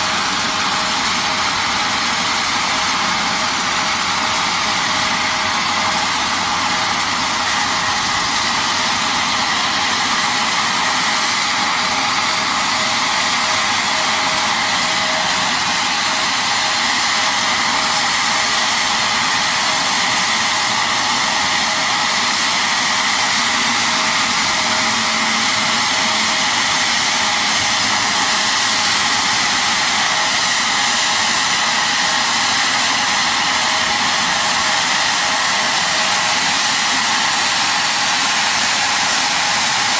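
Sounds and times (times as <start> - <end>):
machinery rushing hiss: 0.0 - 39.9.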